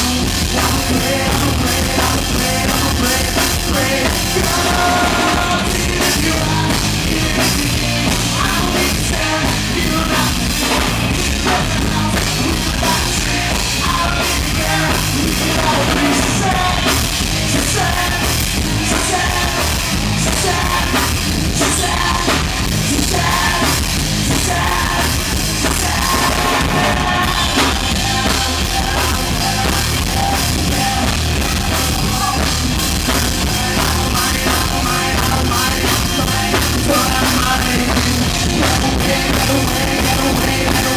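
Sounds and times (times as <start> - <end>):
loud rock music: 0.0 - 40.9.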